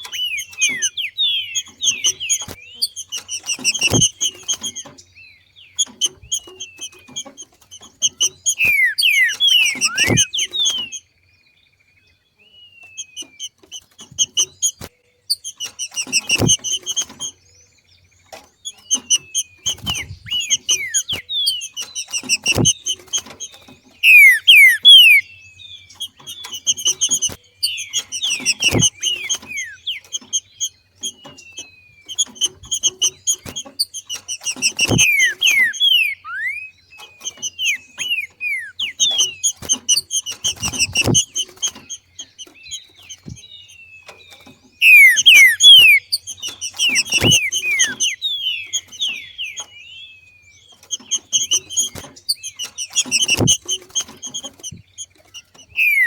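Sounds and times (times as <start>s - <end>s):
bird rapid sharp chirping: 0.0s - 11.1s, 12.6s - 17.6s, 18.2s - 56.0s.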